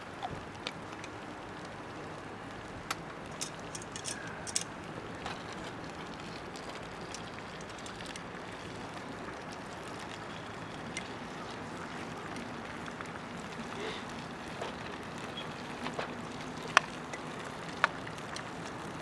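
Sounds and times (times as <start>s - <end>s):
fire crackles and pops: 0.1s - 19.0s
wood fire hissing: 0.1s - 19.0s.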